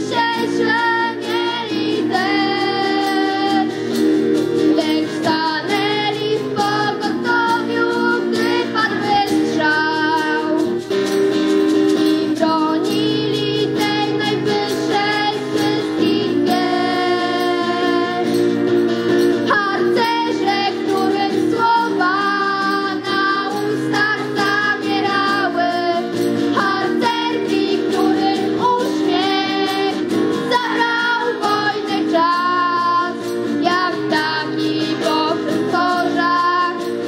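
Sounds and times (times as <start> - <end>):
girls singing: 0.0 - 3.8, 4.7 - 10.7, 12.4 - 18.4, 19.5 - 37.0
group of young voices singing: 0.0 - 3.8, 4.8 - 10.6, 12.4 - 18.4, 19.5 - 37.0
acoustic guitar: 0.0 - 37.0.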